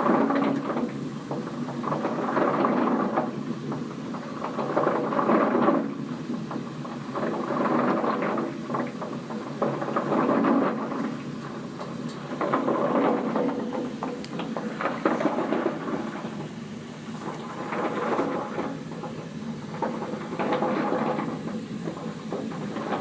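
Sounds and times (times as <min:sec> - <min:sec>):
water heater rumbling and crackling: 0:00.0 - 0:23.0.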